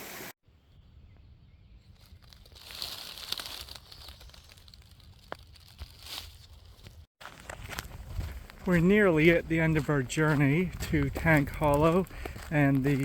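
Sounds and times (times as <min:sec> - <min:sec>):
footsteps crunching on dry trail: 0:01.9 - 0:13.0.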